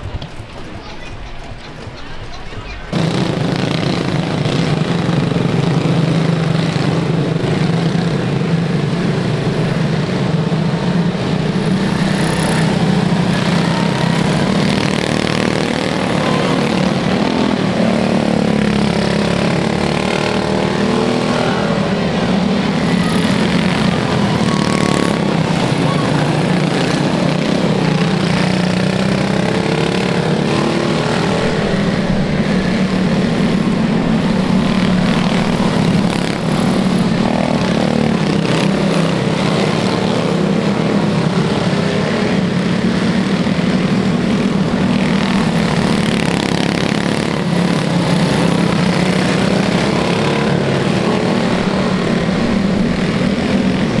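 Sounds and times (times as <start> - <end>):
small race car engines droning: 0.0 - 54.0.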